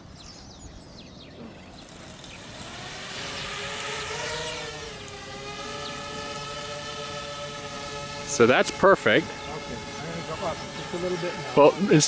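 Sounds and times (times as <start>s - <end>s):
quadcopter propellers whirring: 0.0s - 12.0s.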